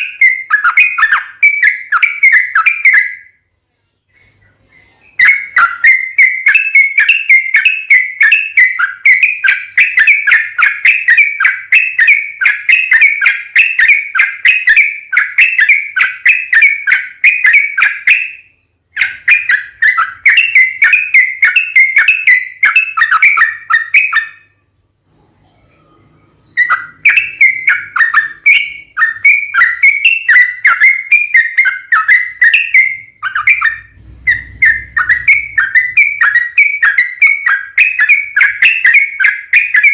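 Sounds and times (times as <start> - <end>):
bird chattering song: 0.0 - 24.7, 25.4 - 39.9.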